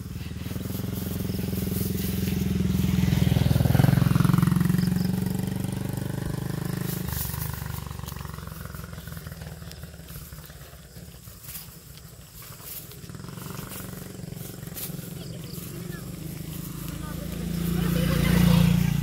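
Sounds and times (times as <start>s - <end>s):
small motorcycle passing by: 0.0s - 19.0s.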